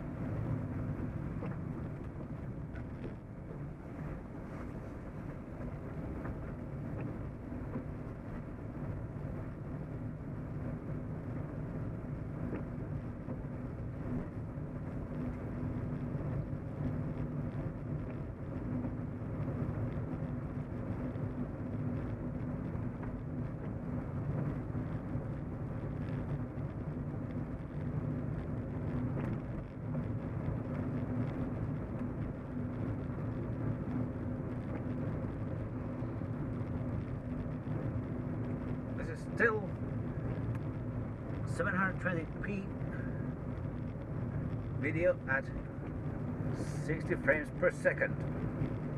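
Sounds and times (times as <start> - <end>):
car engine and tyre rumble: 0.0 - 48.9
constant low hum: 0.0 - 48.9.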